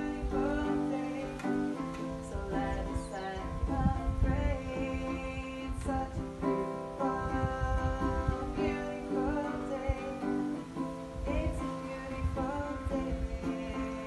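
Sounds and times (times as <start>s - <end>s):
strummed acoustic guitar: 0.0s - 14.0s
woman singing: 0.0s - 14.0s.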